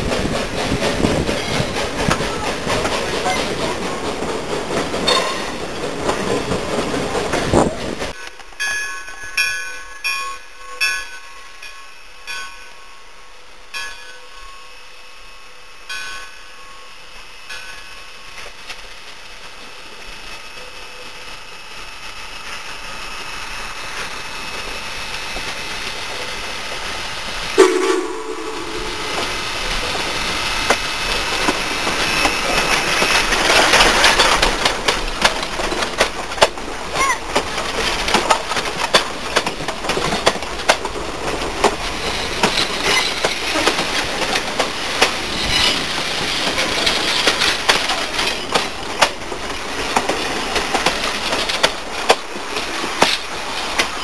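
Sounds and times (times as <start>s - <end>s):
train wheels clickety-clack: 0.0s - 12.6s, 17.4s - 54.0s
steam locomotive passing: 0.0s - 54.0s.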